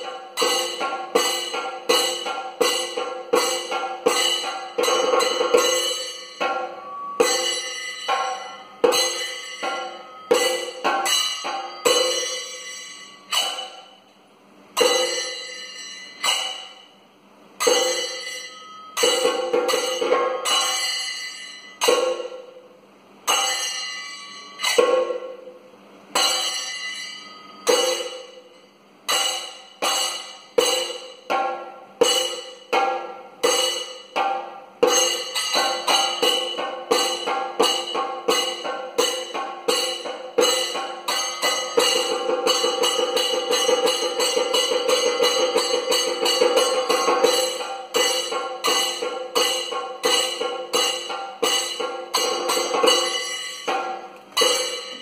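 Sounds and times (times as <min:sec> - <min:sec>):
sharp percussion strikes: 0:00.0 - 0:55.0.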